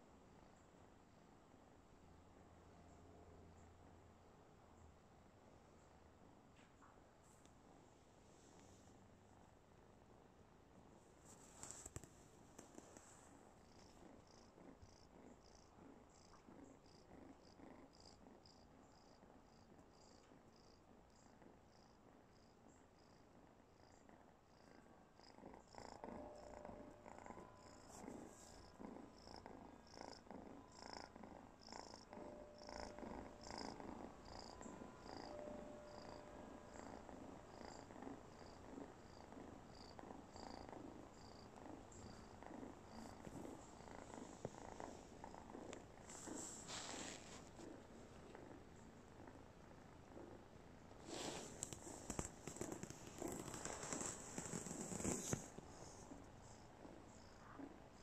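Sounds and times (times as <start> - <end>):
cat purring: 7.5 - 58.0.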